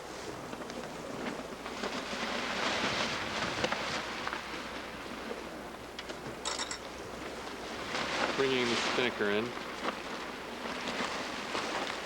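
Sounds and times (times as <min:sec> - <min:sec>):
sail cloth rustling: 0:00.0 - 0:06.4, 0:07.1 - 0:12.0
sea noise: 0:00.0 - 0:12.0
wind: 0:00.0 - 0:12.0.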